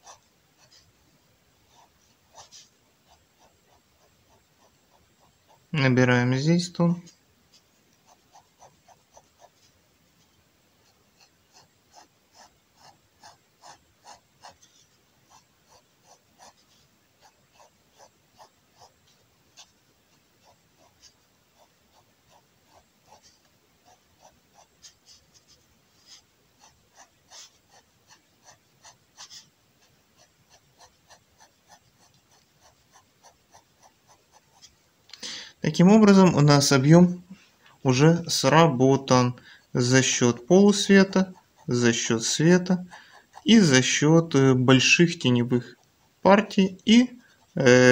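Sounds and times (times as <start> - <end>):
pen scratching on paper: 0.0 - 1.0, 1.6 - 5.8, 7.0 - 34.8, 40.4 - 47.7.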